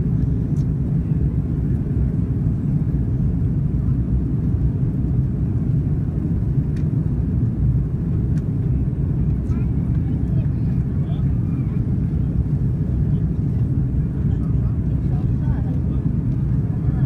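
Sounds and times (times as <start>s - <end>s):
airliner engine rumble in flight: 0.0s - 17.0s.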